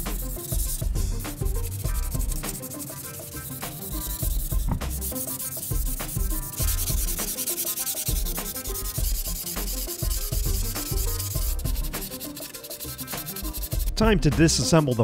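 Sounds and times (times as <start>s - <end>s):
background music with beat: 0.0s - 15.0s
sandpaper rasping on metal: 0.0s - 15.0s.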